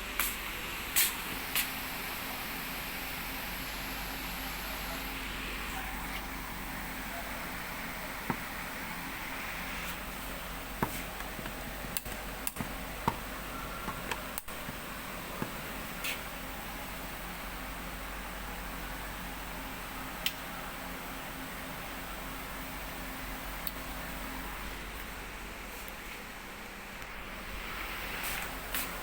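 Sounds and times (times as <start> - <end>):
ceiling fan running: 0.0 - 29.0.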